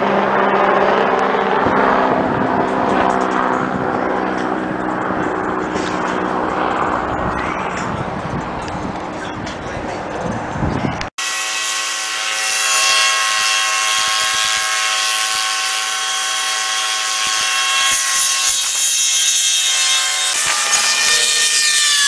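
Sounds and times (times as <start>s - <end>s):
helicopter whining: 0.0s - 18.0s.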